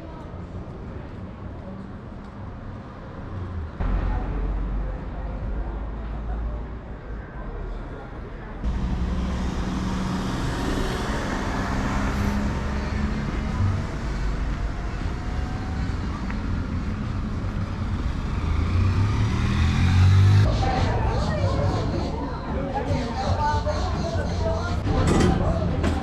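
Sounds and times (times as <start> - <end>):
street traffic passing: 0.0 - 26.0.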